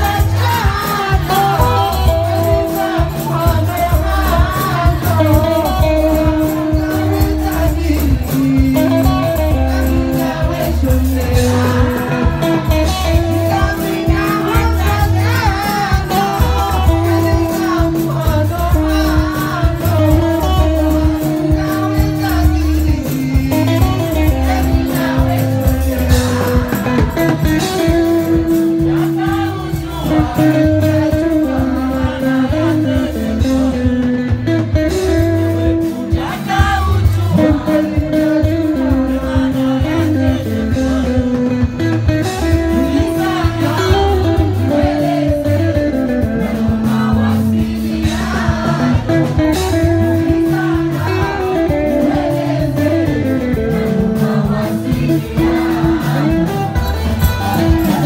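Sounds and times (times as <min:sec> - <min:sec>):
electric guitar: 0:00.0 - 0:58.0
person singing into microphone: 0:00.0 - 0:58.0.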